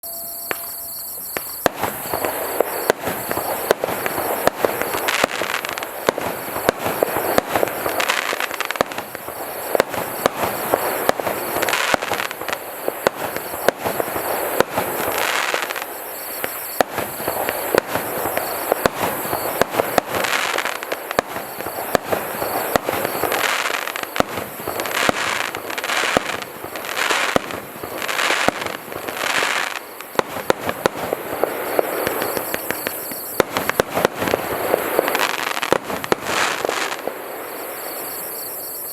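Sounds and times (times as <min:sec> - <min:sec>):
firework bangs and pops: 0:00.5 - 0:38.7
firework hissing and crackling: 0:00.5 - 0:38.9.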